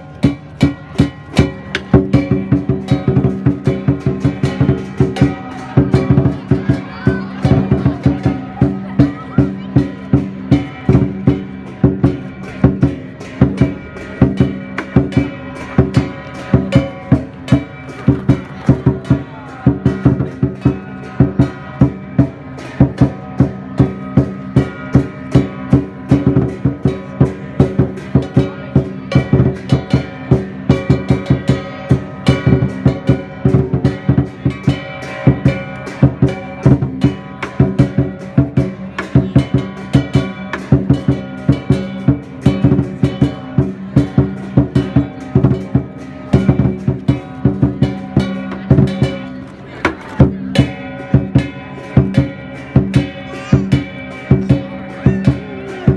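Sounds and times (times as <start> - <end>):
music with steady drum beat: 0.0 - 55.9.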